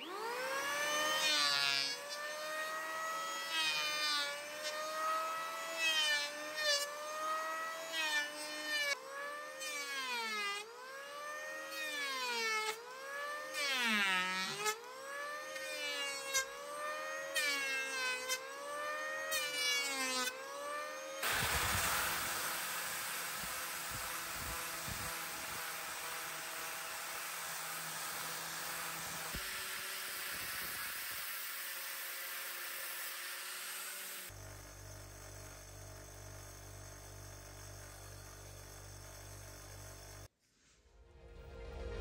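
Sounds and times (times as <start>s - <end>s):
electric hand planer whining: 0.0s - 40.3s
power sander hissing on wood: 0.0s - 40.3s.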